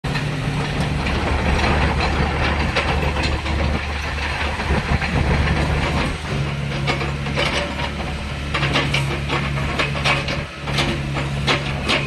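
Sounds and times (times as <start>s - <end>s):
excavator diesel engine: 0.0s - 12.0s
undercarriage clanks and knocks: 0.1s - 12.0s.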